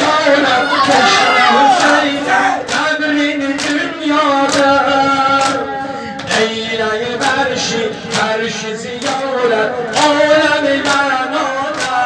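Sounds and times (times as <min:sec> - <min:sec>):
man singing long notes: 0:00.0 - 0:12.0
men chanting a lament: 0:00.0 - 0:12.0.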